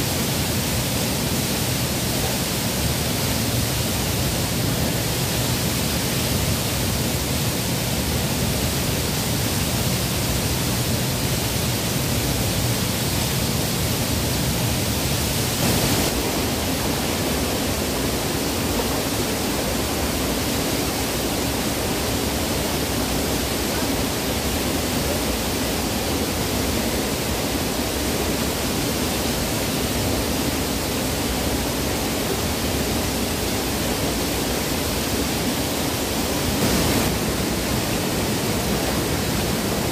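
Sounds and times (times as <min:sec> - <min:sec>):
river rapids: 0:00.0 - 0:39.9
waterfall: 0:00.0 - 0:39.9.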